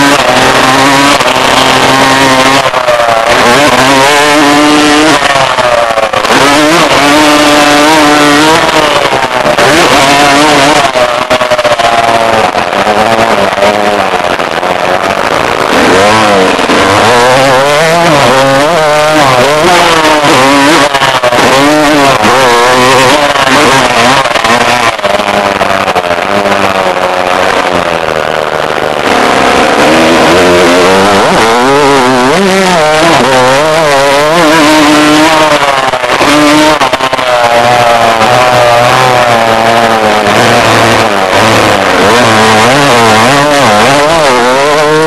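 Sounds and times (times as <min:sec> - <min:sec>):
dirt bike engine revving: 0:00.0 - 0:45.0
steady rushing noise: 0:00.0 - 0:45.0.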